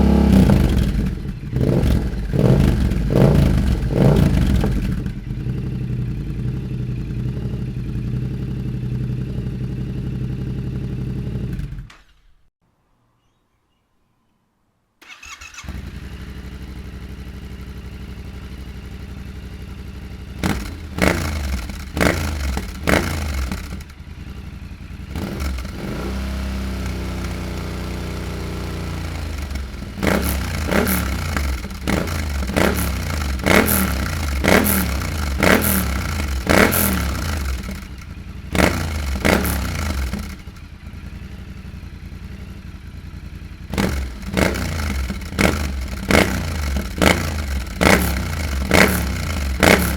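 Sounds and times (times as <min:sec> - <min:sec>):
motorcycle engine idling and revving: 0:00.0 - 0:12.5, 0:15.0 - 0:49.9.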